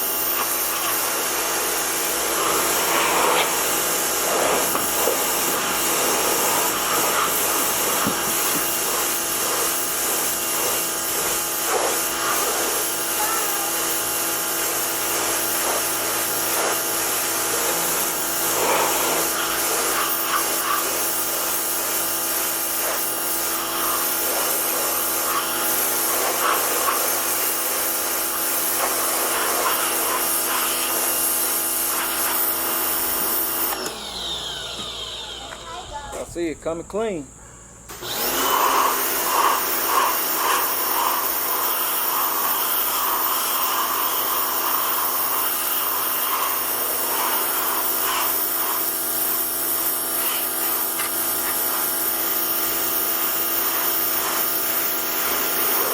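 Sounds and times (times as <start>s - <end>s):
water jet hissing: 0.0s - 36.3s, 37.9s - 55.9s
pressure washer motor whining: 0.0s - 37.2s, 37.9s - 55.9s.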